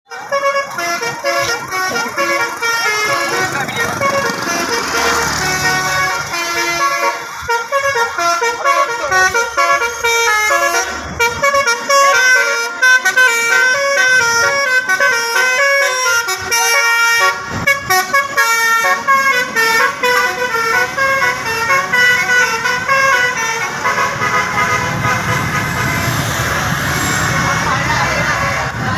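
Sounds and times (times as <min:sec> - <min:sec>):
multi-tone truck horn tune: 0:00.1 - 0:28.9.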